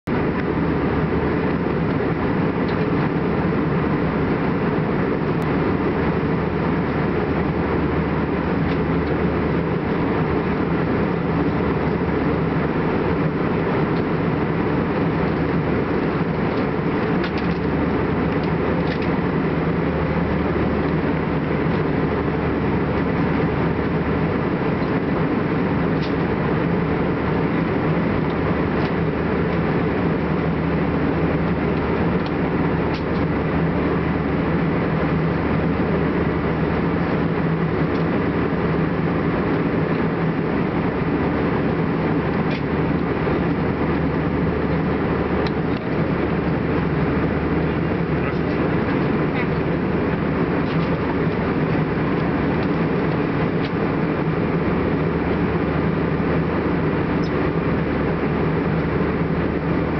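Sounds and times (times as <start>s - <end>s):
airliner cabin engine rush: 0.0s - 59.9s.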